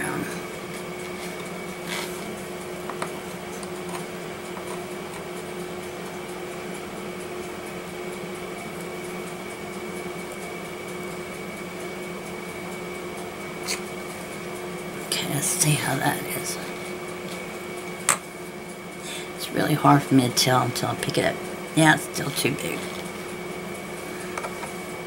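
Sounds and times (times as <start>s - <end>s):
appliance hum: 0.0s - 25.0s.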